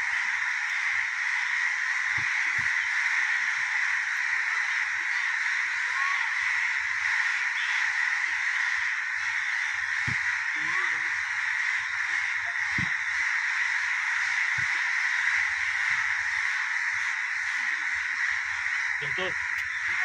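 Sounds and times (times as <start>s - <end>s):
crows cawing: 0.0s - 20.0s.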